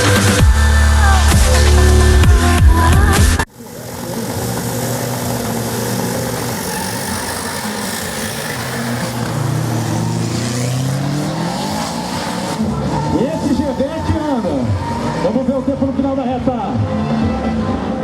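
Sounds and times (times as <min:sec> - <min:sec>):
drag racing car engines accelerating: 0:00.0 - 0:18.0.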